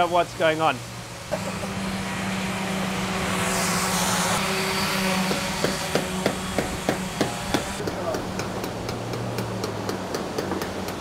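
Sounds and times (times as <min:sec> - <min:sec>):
orbital sanders buzzing on wood: 0:00.0 - 0:11.0.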